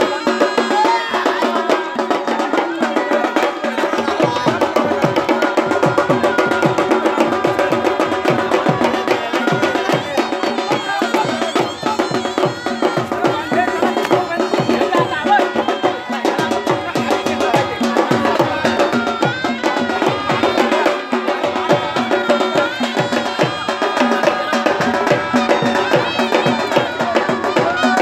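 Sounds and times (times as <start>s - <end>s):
faint murmur of voices: 0.0s - 28.0s
fast drumming: 0.0s - 28.0s.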